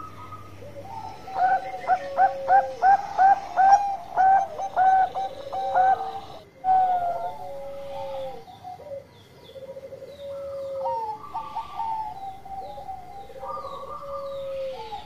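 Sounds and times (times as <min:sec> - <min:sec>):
dove singing quick coos: 0:00.0 - 0:15.0
other doves cooing softly: 0:00.0 - 0:15.0.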